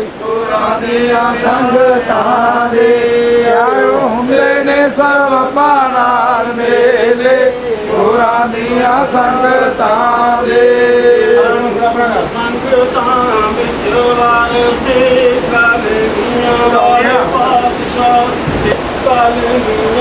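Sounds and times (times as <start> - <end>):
men chanting a devotional hymn: 0.0 - 20.0.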